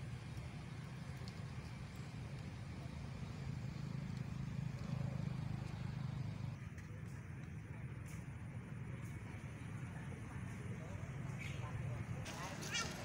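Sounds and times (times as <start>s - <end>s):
distant vehicle engine rumble: 0.0s - 13.0s.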